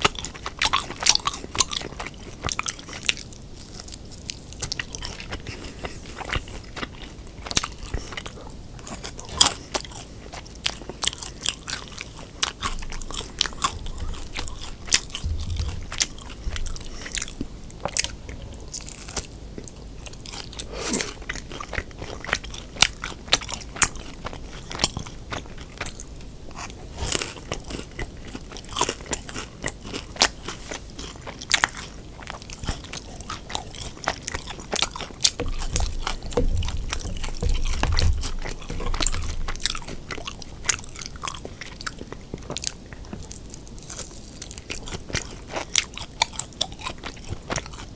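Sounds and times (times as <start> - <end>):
chewing with crunches: 0.0 - 47.9.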